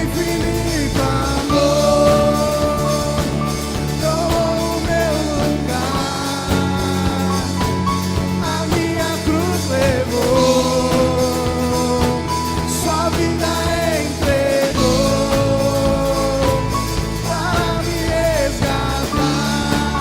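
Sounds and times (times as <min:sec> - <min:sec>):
indistinct singing: 0:00.0 - 0:20.0
steady drum beat: 0:00.0 - 0:20.0
worship band playing: 0:00.0 - 0:20.0.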